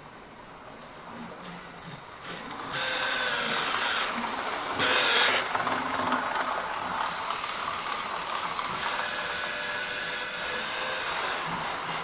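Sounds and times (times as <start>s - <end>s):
model train motor whirring: 2.2s - 12.0s.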